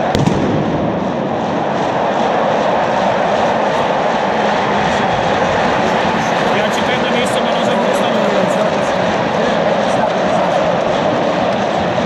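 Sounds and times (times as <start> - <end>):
stadium crowd din: 0.0 - 12.0.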